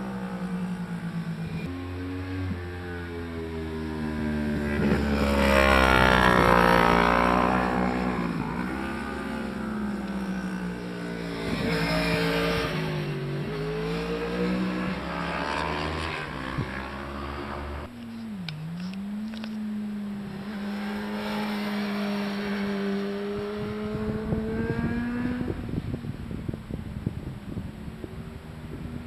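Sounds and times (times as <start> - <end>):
motorcycle engines racing: 0.0 - 29.0.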